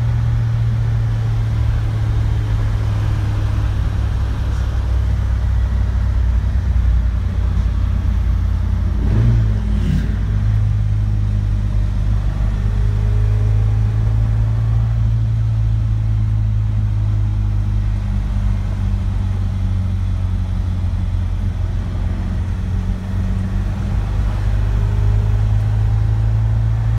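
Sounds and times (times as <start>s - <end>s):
car engine heard from inside cabin: 0.0s - 26.9s.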